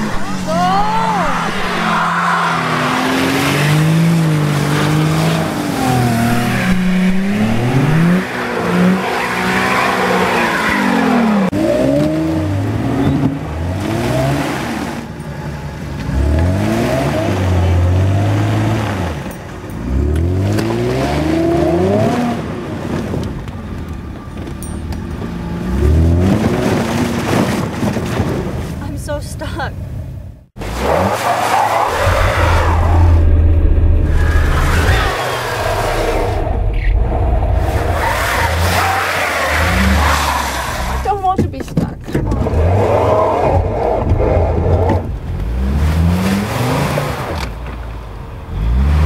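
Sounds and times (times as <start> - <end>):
car engine revving: 0.0 - 22.7, 30.6 - 41.3, 42.1 - 49.0.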